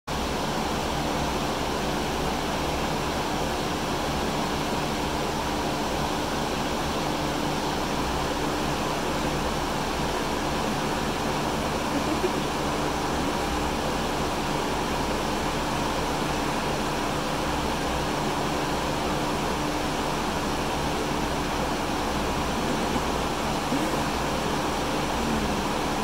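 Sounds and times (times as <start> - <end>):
faint hum: 0.2 - 26.0.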